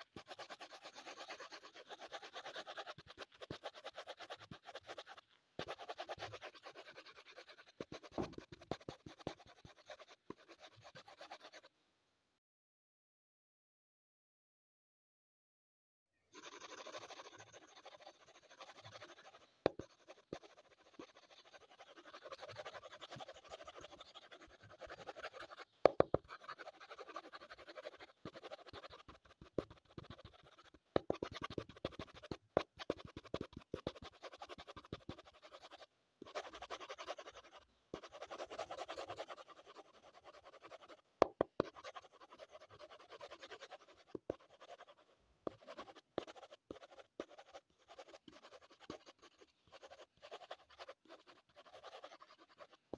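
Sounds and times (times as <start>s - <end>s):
pencil scratching on paper: 0.0s - 11.7s, 16.4s - 52.9s.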